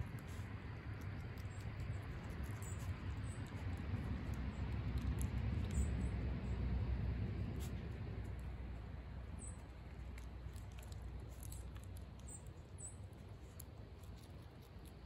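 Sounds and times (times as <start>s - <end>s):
skunk crunching food: 0.0s - 15.0s.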